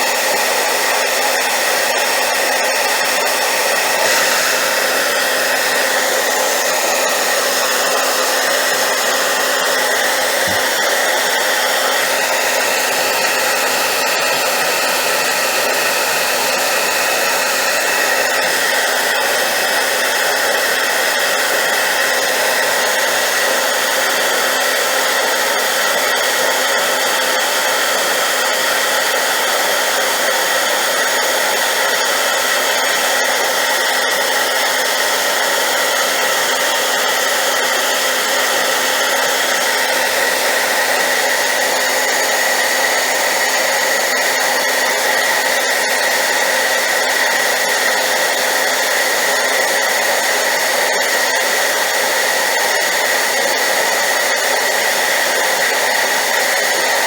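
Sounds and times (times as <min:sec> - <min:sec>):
hairdryer running: 0:00.0 - 0:57.0.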